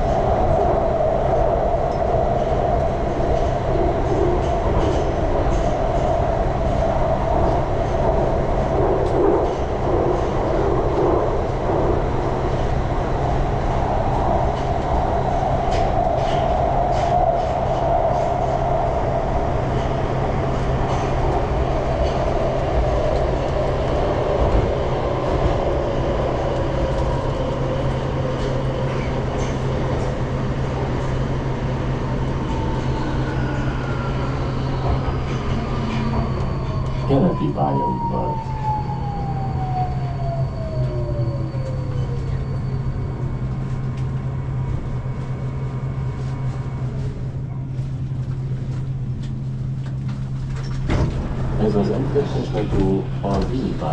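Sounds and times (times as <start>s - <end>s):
falling whine of train: 0.0s - 53.9s
metro train rumble and hum: 0.0s - 53.9s.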